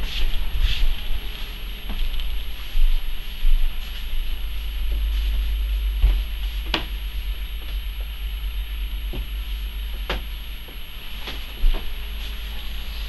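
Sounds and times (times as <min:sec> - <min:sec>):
handling noise: 0:00.0 - 0:12.8
wind rumble: 0:00.0 - 0:13.0.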